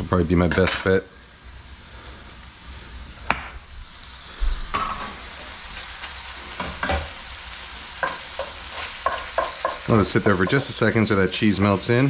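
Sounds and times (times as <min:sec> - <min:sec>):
beef sizzling in skillet: 0:00.2 - 0:12.0.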